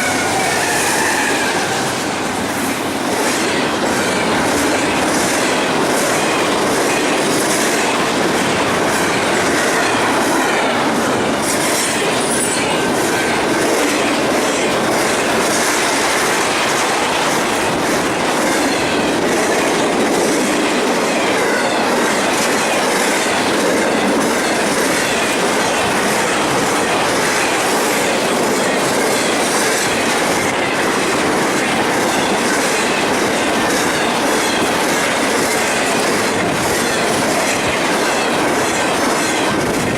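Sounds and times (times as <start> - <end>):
clickety-clack over rail joints: 0.0 - 39.9
train wheels on rails: 0.0 - 39.9.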